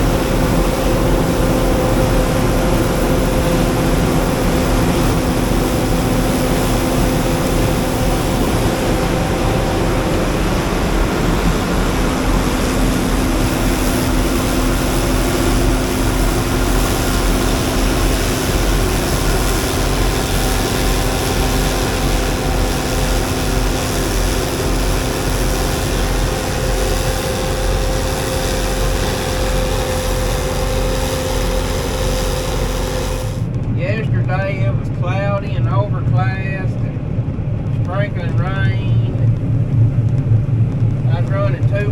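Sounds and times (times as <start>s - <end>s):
combine harvester engine drone: 0.0s - 41.9s.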